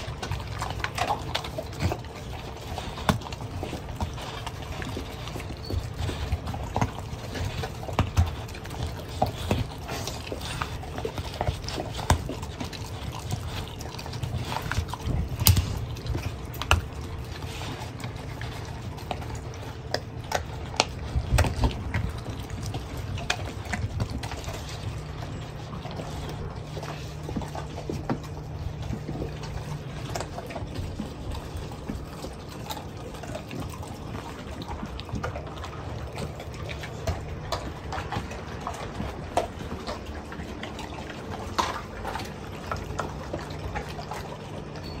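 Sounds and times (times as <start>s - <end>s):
puppy chewing and gnawing: 0.0s - 45.0s.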